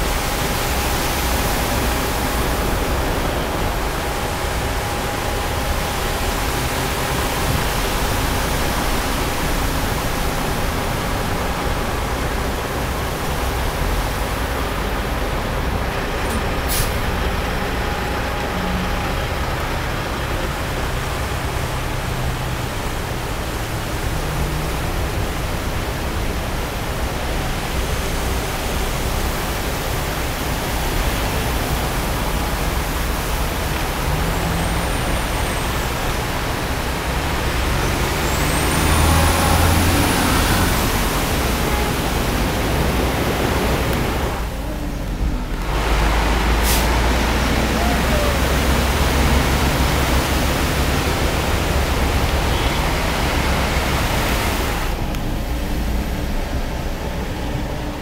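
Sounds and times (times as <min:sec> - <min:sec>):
traffic driving through floodwater: 0:00.0 - 0:58.0.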